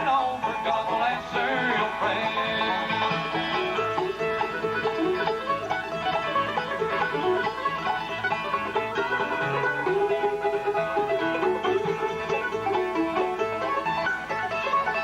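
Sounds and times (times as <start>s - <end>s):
banjo plucking: 0.0s - 15.0s
guitar: 0.0s - 15.0s
mandolin: 0.0s - 15.0s.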